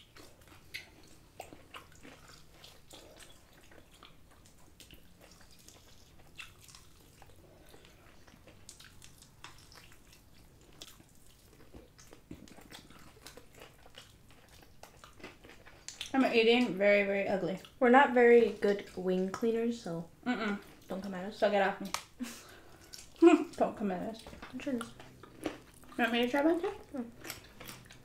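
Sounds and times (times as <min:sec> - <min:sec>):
people chewing fried chicken: 0:00.0 - 0:28.0.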